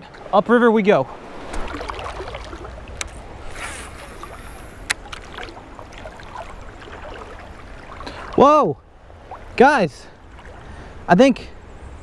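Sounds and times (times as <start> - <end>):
river water running: 0.0 - 12.0.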